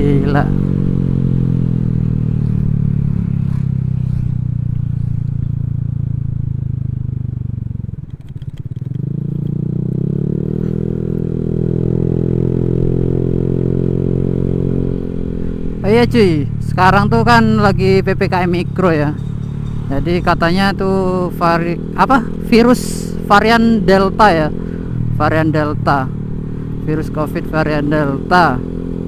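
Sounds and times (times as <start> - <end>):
scooter engine droning: 0.0 - 29.0.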